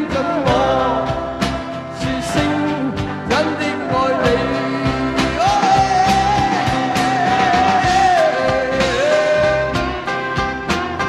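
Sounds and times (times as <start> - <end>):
person singing with vibrato: 0.0 - 10.2
steady drum beat: 0.0 - 11.0
strummed acoustic guitars: 0.0 - 11.0.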